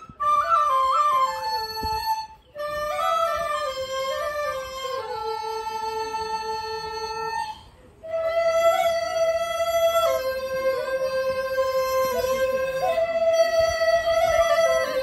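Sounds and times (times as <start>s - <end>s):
bamboo flutes slow melody: 0.0s - 15.0s.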